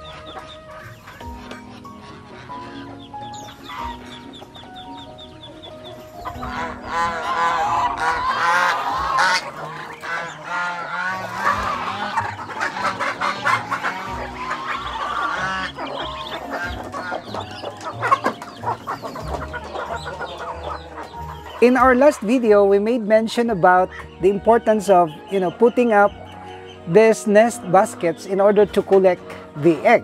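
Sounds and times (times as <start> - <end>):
chickens clucking: 0.0 - 30.0
geese honking: 0.0 - 30.0
soft background music: 0.0 - 30.0.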